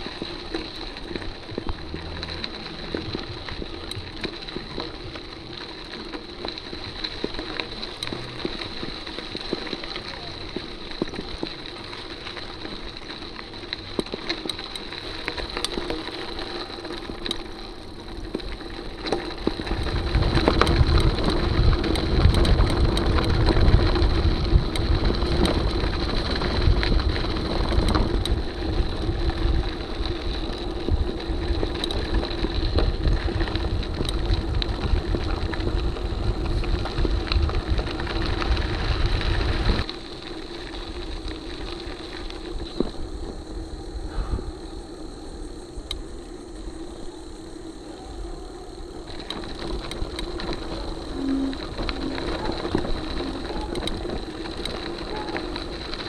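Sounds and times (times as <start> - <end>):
tyres crunching on gravel: 0.0 - 44.0, 45.5 - 56.0
bike rattles and clicks: 0.0 - 56.0
wind rumble on microphone: 0.0 - 56.0.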